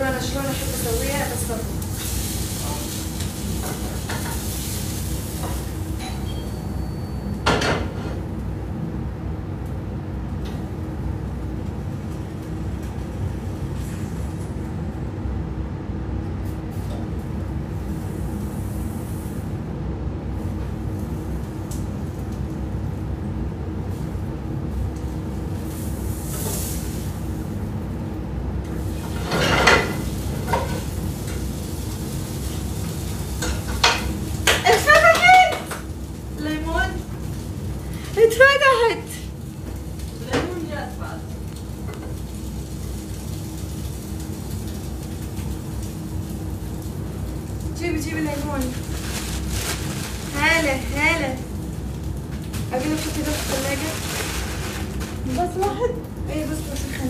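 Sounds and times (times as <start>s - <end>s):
food frying in pan: 0.0s - 57.0s.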